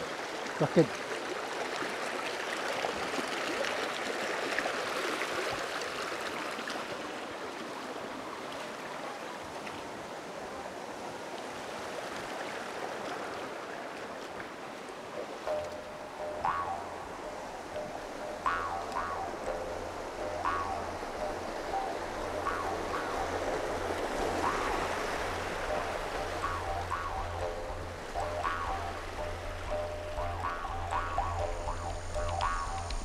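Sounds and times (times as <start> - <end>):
creek water rushing over stones: 0.0 - 33.0.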